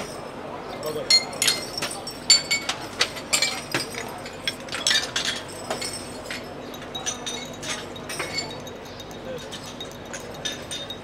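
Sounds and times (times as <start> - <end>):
glassware and cutlery clinking: 0.0 - 11.0.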